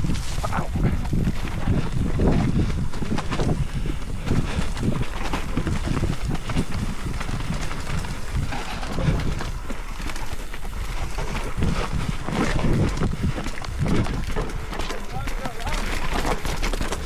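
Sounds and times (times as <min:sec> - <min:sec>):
mountain bike rattling over rough ground: 0:00.0 - 0:17.0
wind on microphone: 0:00.0 - 0:17.0.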